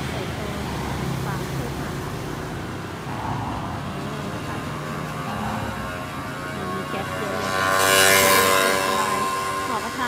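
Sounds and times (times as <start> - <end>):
engine and road noise: 0.0 - 10.0.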